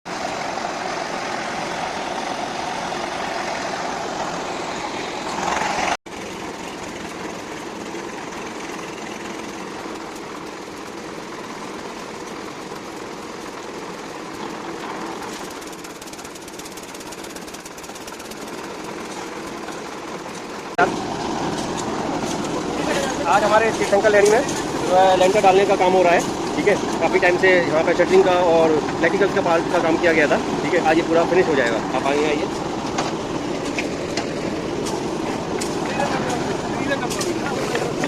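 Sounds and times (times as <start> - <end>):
construction machinery engine running: 0.1 - 38.0.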